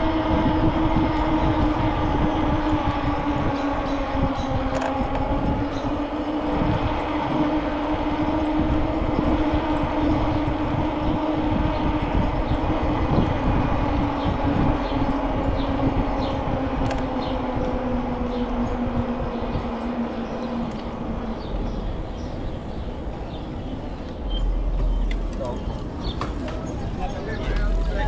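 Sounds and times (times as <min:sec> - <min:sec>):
bicycle tyre hum: 0:00.0 - 0:28.0
wind on microphone: 0:00.0 - 0:28.0.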